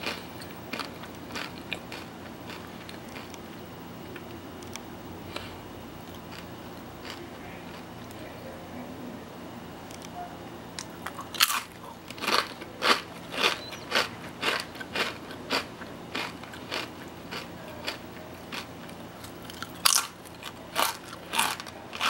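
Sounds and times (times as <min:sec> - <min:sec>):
potato chips crunching: 0:00.0 - 0:03.4, 0:04.1 - 0:08.2, 0:10.8 - 0:22.0
chewing: 0:00.0 - 0:08.2, 0:10.8 - 0:22.0.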